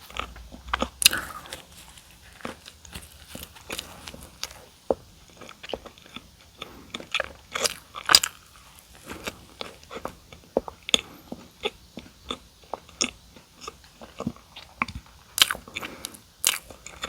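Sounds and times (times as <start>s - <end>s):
person chewing and biting: 0.0s - 17.0s.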